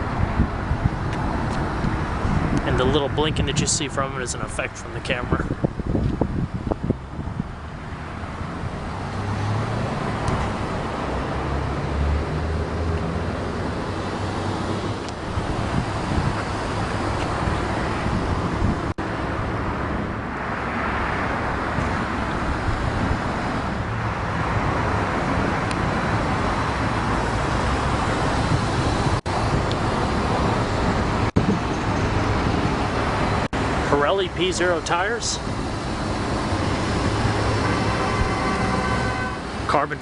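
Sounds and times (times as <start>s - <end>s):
low vehicle rumble with hiss: 0.0s - 40.0s.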